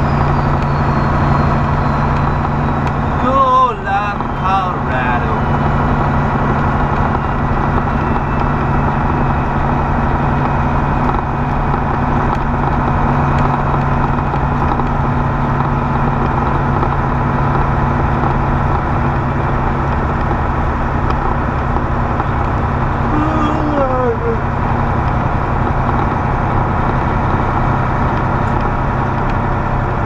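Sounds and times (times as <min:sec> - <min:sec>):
road noise: 0:00.0 - 0:30.0
truck diesel engine running: 0:00.0 - 0:30.0.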